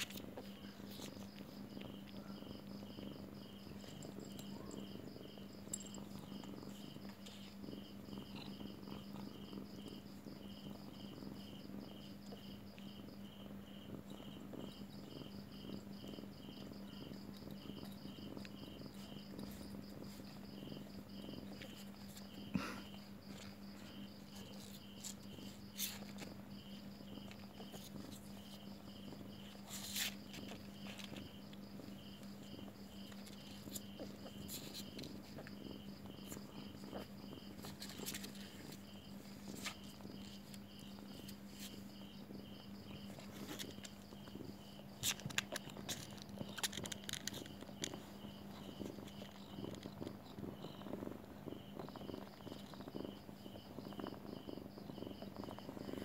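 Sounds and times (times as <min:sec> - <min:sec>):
cat purring: 0:00.0 - 0:56.0
insect chirping: 0:00.0 - 0:56.0.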